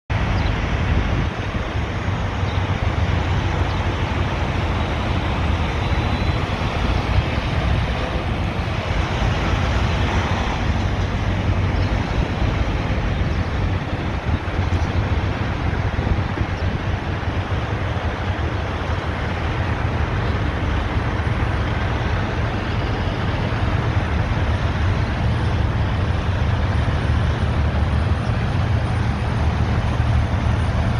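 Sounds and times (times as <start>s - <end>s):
truck diesel engine passing: 0.1s - 30.9s.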